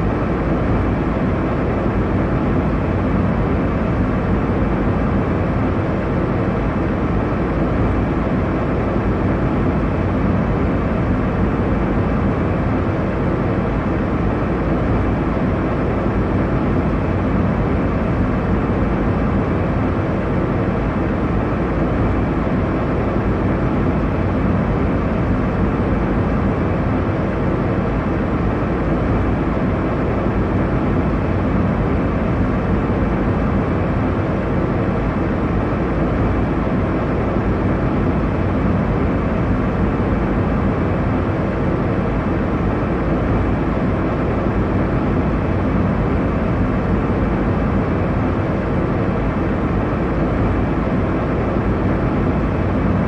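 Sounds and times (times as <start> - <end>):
airliner cabin engine rush: 0.0 - 53.0.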